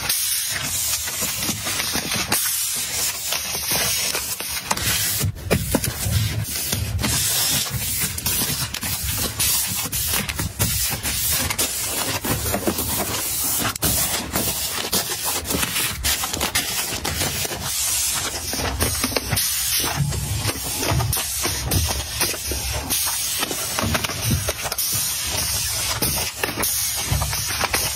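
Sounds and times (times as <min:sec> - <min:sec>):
tissue packs rustling and crinkling: 0:00.0 - 0:27.9.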